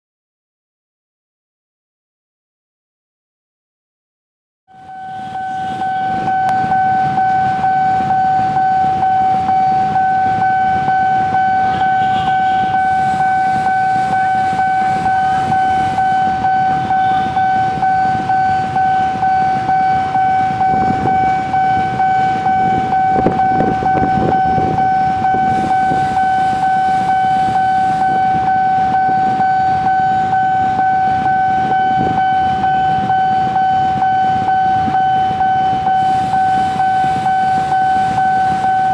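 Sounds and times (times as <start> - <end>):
level crossing alarm tone: 4.7 - 38.9.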